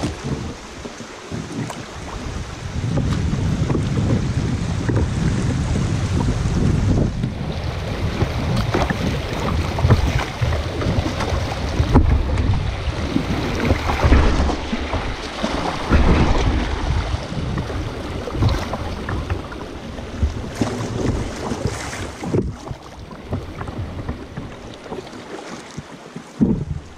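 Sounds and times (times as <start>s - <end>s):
paddle knocks: 0.0s - 7.4s, 8.0s - 26.9s
wind buffeting microphone: 0.0s - 25.2s, 25.8s - 26.9s
water splashing around kayak: 0.0s - 26.9s.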